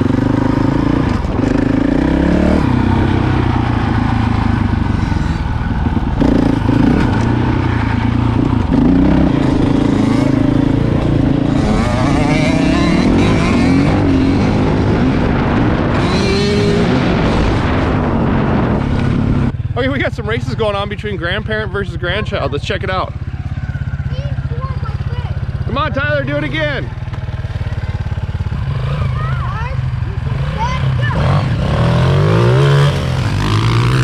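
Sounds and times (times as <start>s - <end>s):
motorcycle engine at low revs: 0.0s - 34.0s.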